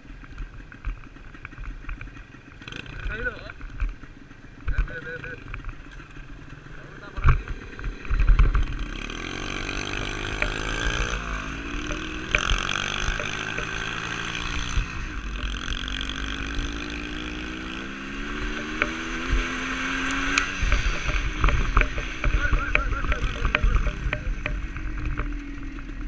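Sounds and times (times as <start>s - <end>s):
dirt bike engine revving: 2.6s - 3.5s, 4.7s - 26.0s.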